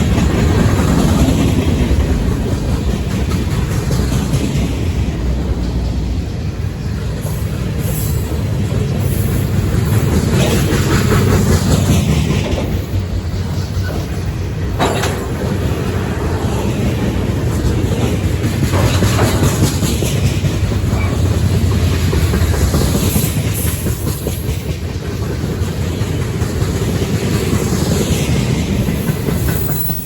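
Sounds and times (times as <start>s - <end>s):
train wheels rumbling on rails: 0.0s - 30.0s
wheels clacking over rail joints: 0.0s - 30.0s.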